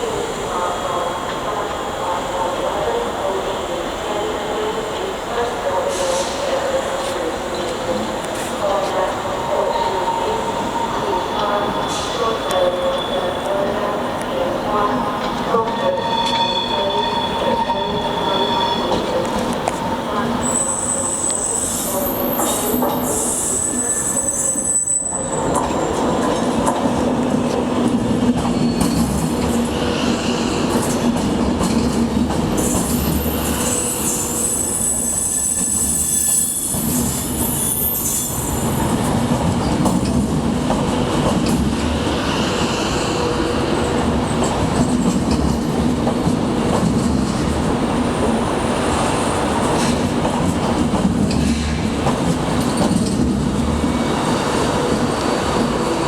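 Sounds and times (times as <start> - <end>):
train rumble and hum: 0.0 - 24.0, 25.1 - 56.0
train wheels squealing on rails: 5.9 - 14.3, 15.1 - 46.0, 46.8 - 56.0.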